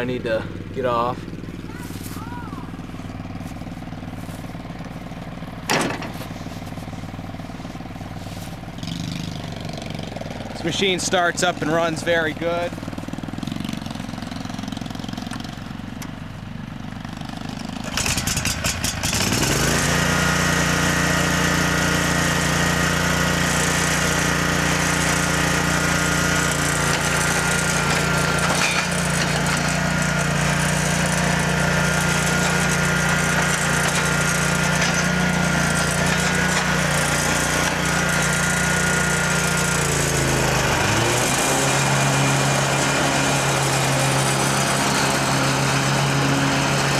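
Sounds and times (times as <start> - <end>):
lawn mower engine starting and running: 0.0 - 46.9.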